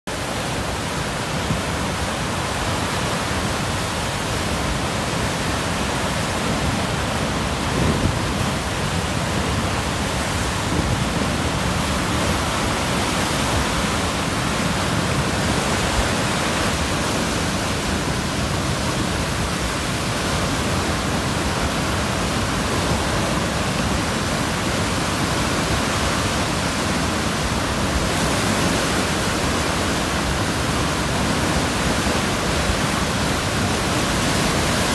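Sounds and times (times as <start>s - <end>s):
water rushing over a dam: 0.1s - 34.9s.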